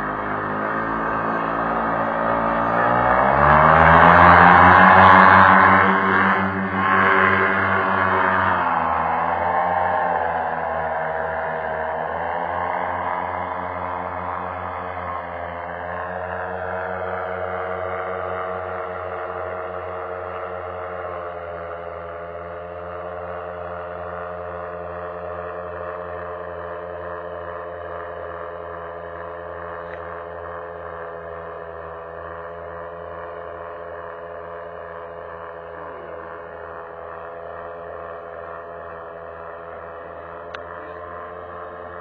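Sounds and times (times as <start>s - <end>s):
paramotor engine droning: 0.0s - 42.0s.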